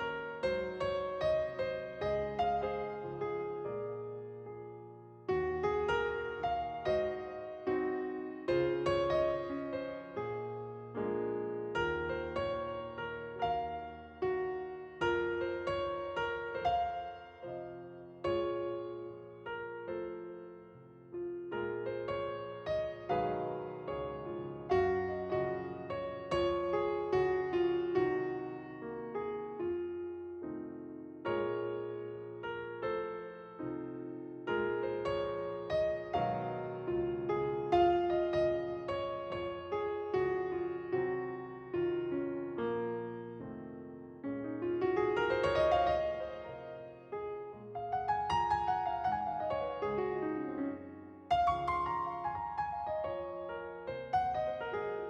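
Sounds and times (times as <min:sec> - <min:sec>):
gentle piano chords: 0:00.0 - 0:55.0.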